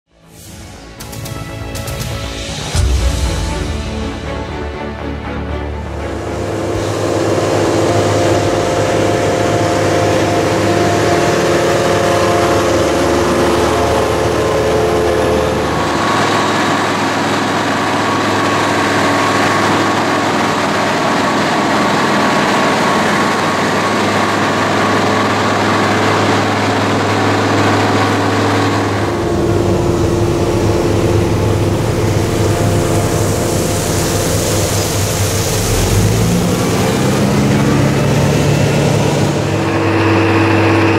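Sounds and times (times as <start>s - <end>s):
diesel paving machinery running: 0.3s - 40.9s.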